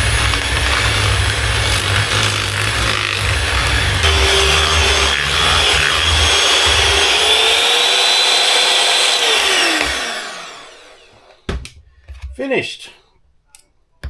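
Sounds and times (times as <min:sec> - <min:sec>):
electric hand mixer whining: 0:00.0 - 0:11.5.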